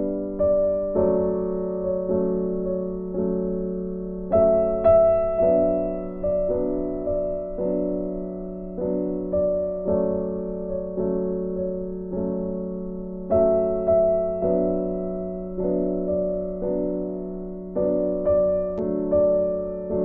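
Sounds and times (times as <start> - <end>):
soft piano chords: 0.0 - 20.0.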